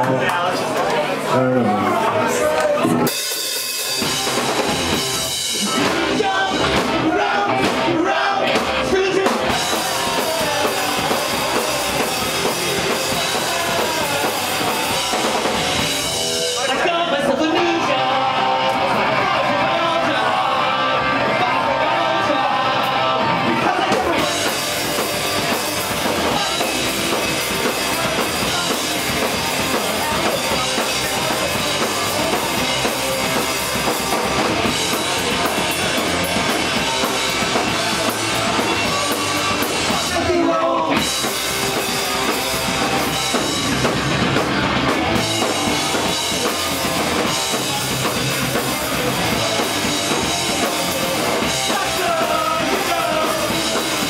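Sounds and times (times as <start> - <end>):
distorted electric guitars: 0.0 - 54.0
drum kit: 2.4 - 54.0.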